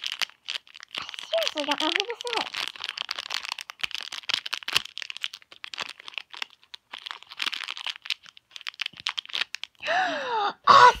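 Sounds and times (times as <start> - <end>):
plastic bag tearing and crumpling: 0.0 - 9.8.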